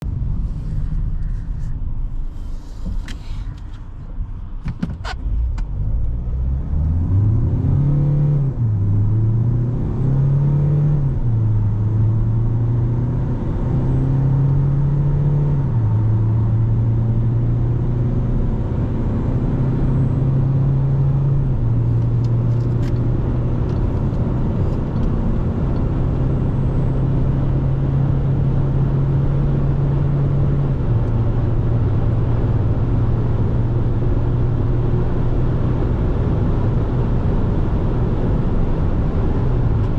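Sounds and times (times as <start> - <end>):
van diesel engine accelerating: 0.0 - 39.9.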